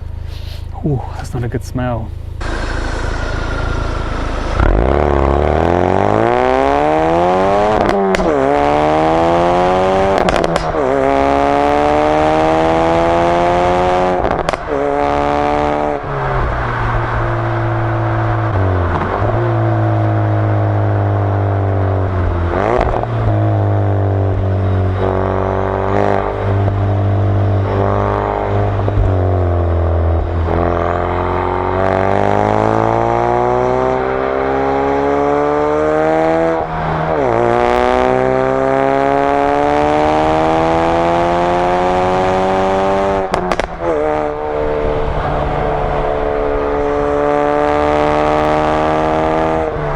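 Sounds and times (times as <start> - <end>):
exhaust cracks: 0.0 - 35.5, 41.8 - 48.5
car engine accelerating through gears: 2.2 - 49.9.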